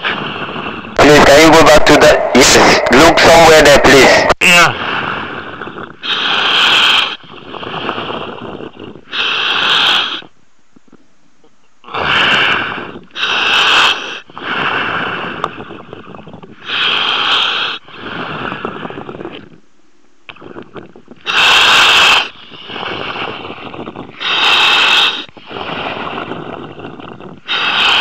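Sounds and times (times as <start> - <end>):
diver breathing through helmet: 0.0 - 10.3, 11.9 - 19.5, 20.4 - 28.0.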